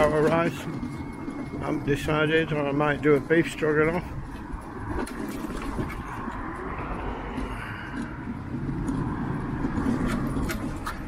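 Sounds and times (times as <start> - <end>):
car passing: 0.0 - 11.0
wind rumbling on microphone: 0.0 - 11.0.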